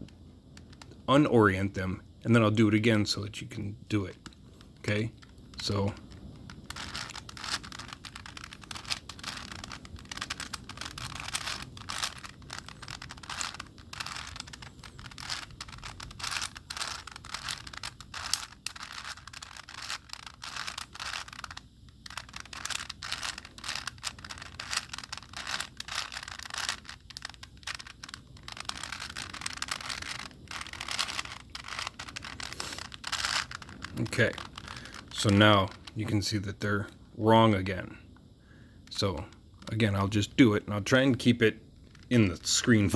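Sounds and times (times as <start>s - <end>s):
puzzle cube clicking and scraping: 0.0s - 1.1s, 4.0s - 37.0s, 38.9s - 42.9s.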